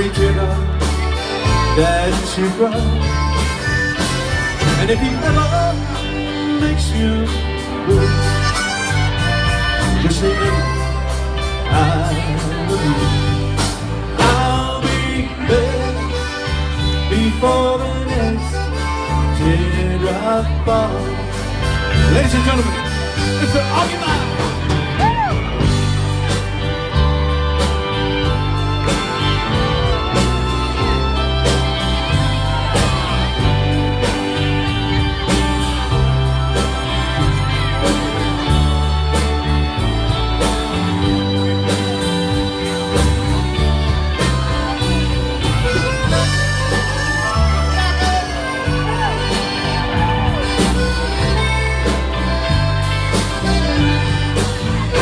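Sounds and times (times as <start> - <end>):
accordion sustained chords: 0.0 - 55.0
bass guitar: 0.0 - 55.0
drums: 0.0 - 55.0
electric guitars: 0.0 - 55.0
keyboard sustained chords: 0.0 - 55.0.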